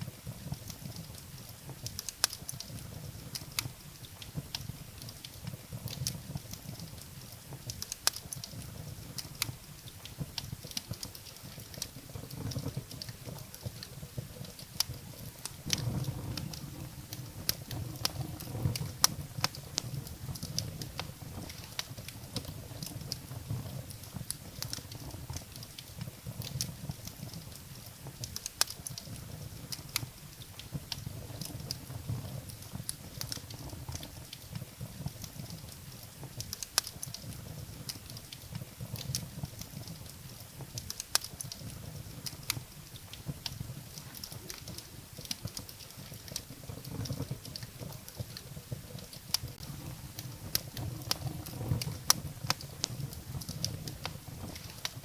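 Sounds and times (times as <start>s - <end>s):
firewood crackling and popping: 0.0s - 55.0s
low rumble of flame: 0.0s - 55.0s.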